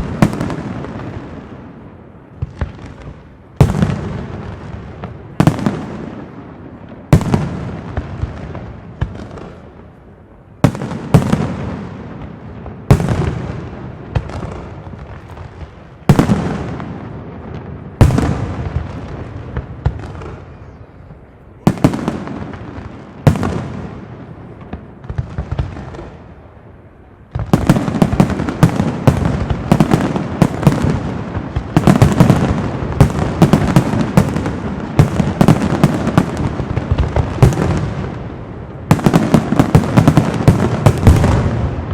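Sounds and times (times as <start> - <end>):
firework bangs with echoing rumble: 0.0 - 9.9, 10.5 - 26.6, 27.2 - 41.9.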